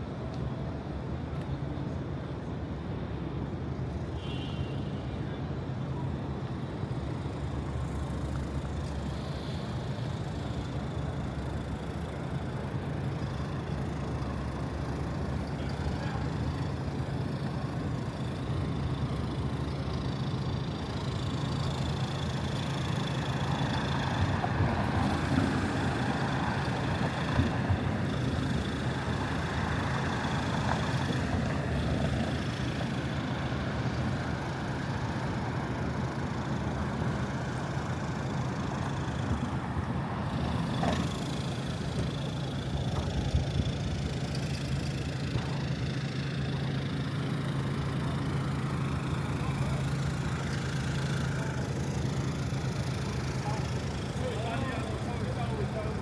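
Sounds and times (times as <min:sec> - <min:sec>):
city traffic rumble: 0:00.0 - 0:56.0.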